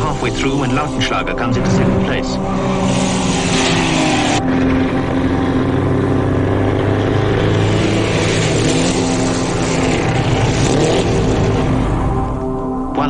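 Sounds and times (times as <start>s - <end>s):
racing car engines passing: 0.0s - 12.7s.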